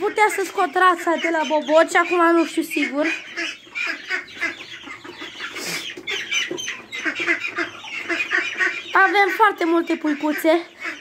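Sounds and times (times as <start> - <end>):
chicks peeping: 0.0 - 11.0
low clucks: 0.0 - 11.0.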